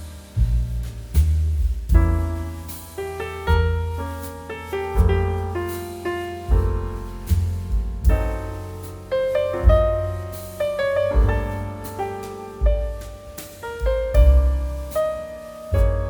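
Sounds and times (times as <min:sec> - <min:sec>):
slow solo piano melody: 0:00.0 - 0:16.0.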